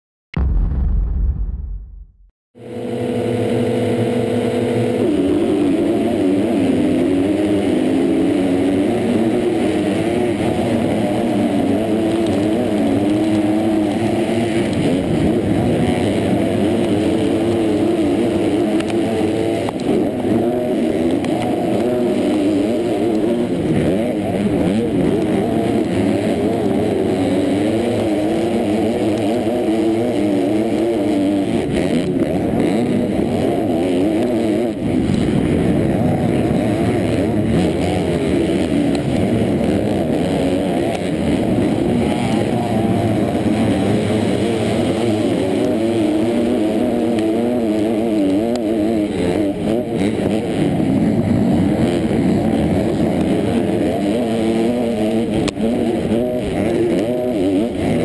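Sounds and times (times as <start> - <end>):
motocross bikes revving: 2.6 - 58.0.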